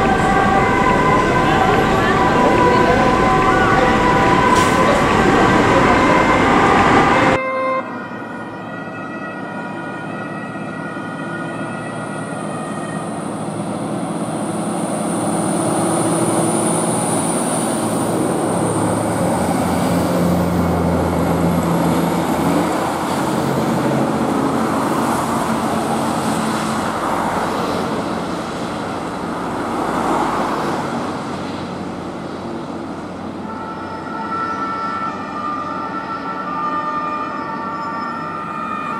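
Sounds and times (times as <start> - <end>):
fire engine engines: 0.0 - 38.9
road traffic noise: 0.0 - 38.9
two-tone sirens: 0.0 - 38.9.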